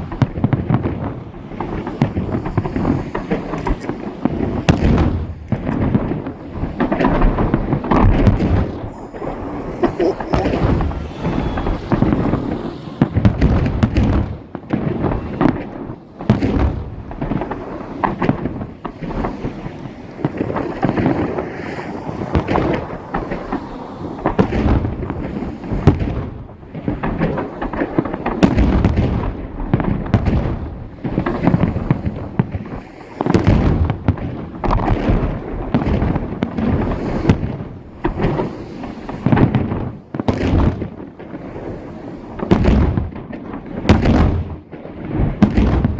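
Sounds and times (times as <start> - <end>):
fireworks booming: 0.0 - 45.9.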